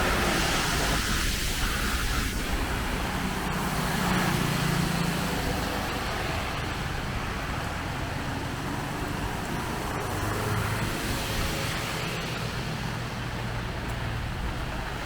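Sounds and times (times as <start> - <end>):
passing vehicle engine hum: 0.0 - 15.0
steady hiss of wet road: 0.0 - 15.0.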